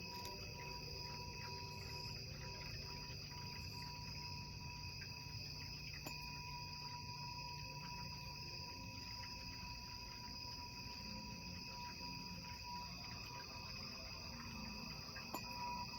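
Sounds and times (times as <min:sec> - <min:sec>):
singing bowl ringing: 0:00.0 - 0:05.1, 0:05.9 - 0:15.9.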